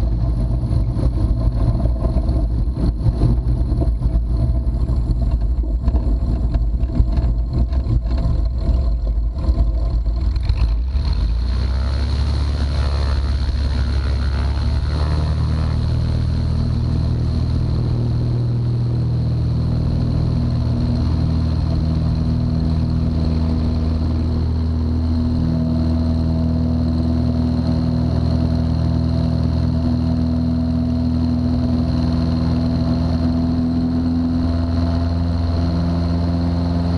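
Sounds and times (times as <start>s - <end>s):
choppy rattling noise: 0.0s - 36.9s
propeller plane engine running: 0.0s - 36.9s.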